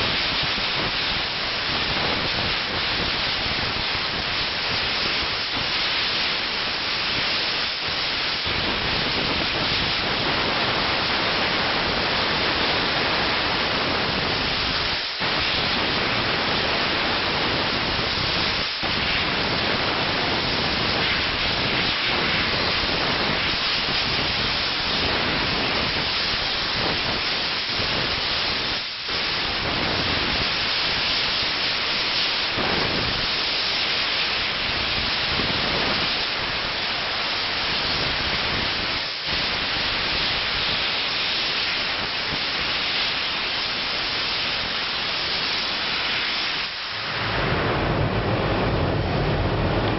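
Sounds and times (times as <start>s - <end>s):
steam nozzle hissing: 0.0s - 49.7s.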